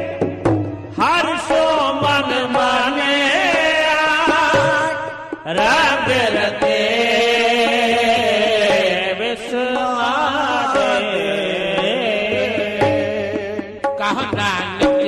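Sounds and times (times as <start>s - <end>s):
instrumental accompaniment: 0.0s - 15.0s
person singing devotional melody: 0.0s - 15.0s.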